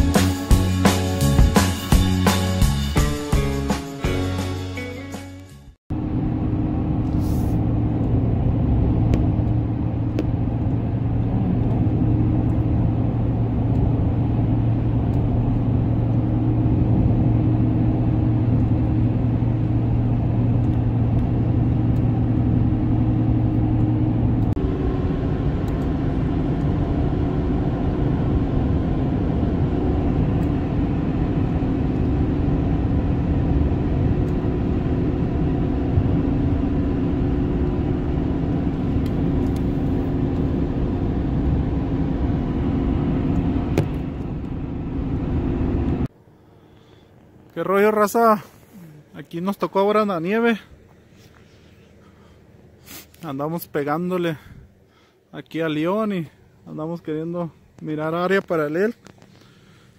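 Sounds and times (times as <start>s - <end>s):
truck engine hum: 0.0s - 53.2s.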